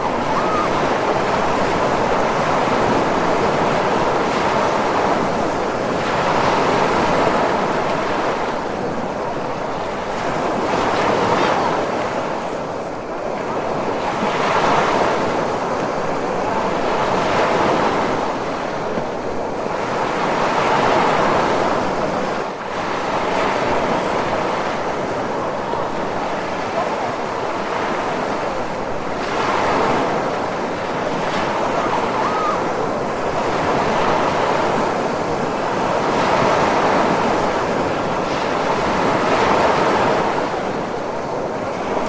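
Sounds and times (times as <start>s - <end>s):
ocean waves washing in: 0.0s - 42.0s.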